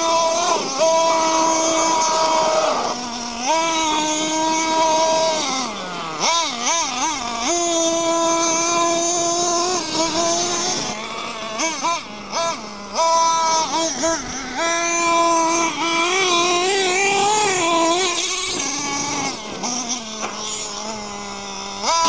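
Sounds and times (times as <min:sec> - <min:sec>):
small two-stroke engine revving: 0:00.0 - 0:22.0.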